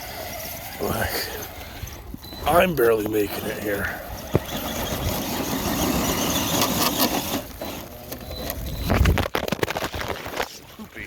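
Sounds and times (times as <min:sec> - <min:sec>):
toy truck motor whirring: 0:00.0 - 0:09.2.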